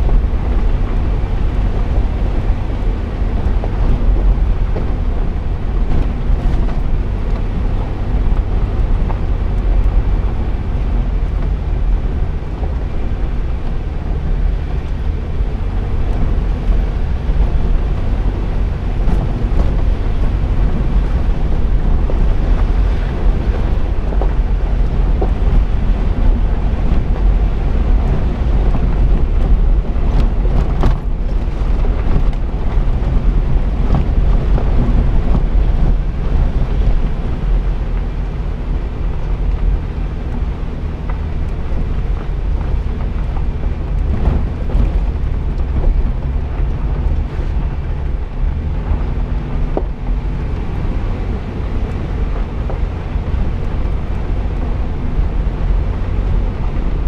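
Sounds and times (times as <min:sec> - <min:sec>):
engine and tyres rumbling: 0:00.0 - 0:57.0
wind buffeting microphone: 0:00.0 - 0:57.0.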